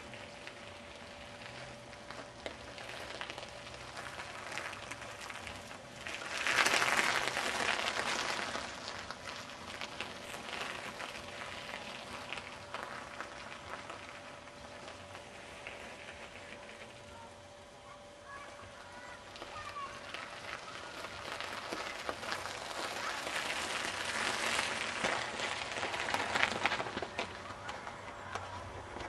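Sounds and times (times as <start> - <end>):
bicycle tyres on gravel: 0.0 - 29.0.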